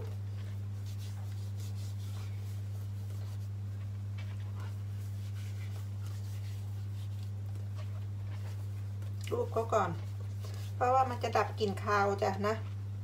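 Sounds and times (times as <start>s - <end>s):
hands rubbing starch on fish: 0.0s - 12.4s
steady low hum: 0.0s - 13.0s.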